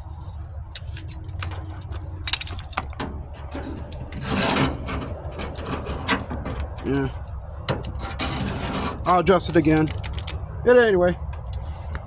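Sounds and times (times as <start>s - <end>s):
low steady hum: 0.0s - 12.0s
metal clicks and scrapes: 0.7s - 10.6s.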